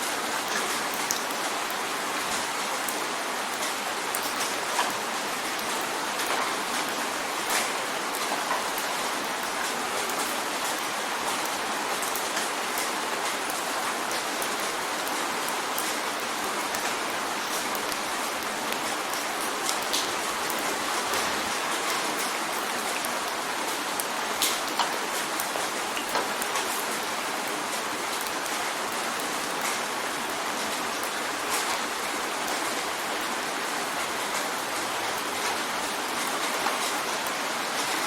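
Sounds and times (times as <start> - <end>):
rain drumming on window: 0.0 - 38.0.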